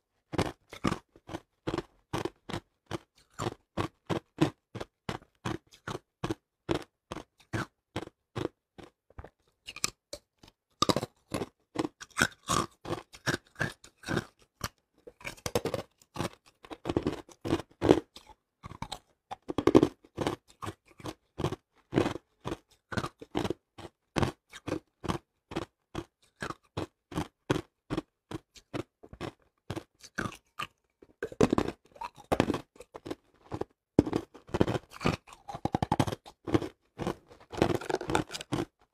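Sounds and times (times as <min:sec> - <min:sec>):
ice being bitten and chewed: 0:00.2 - 0:38.9.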